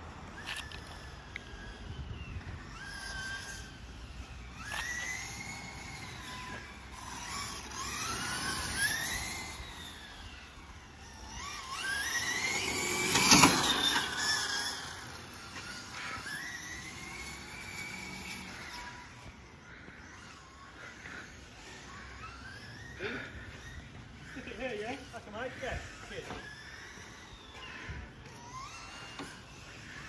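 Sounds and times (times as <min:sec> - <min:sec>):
rc car electric motor whine: 0:00.0 - 0:30.0.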